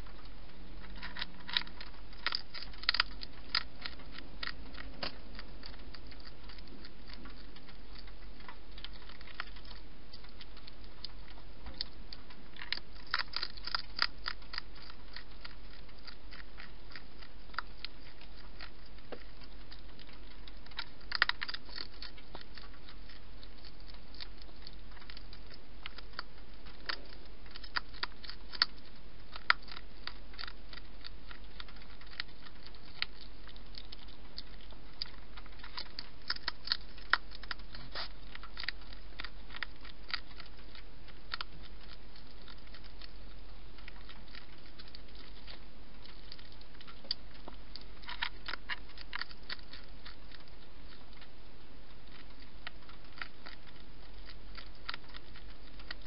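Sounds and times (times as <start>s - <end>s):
hedgehog chewing clicks: 0.0s - 56.0s
steady low hum: 0.0s - 56.0s.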